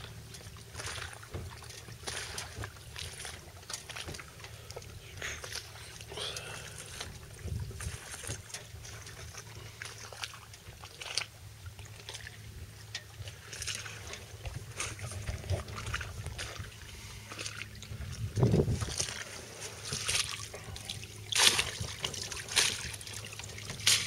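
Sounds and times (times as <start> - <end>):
steady low rumble: 0.0 - 24.0
water lapping against hull: 0.0 - 24.0.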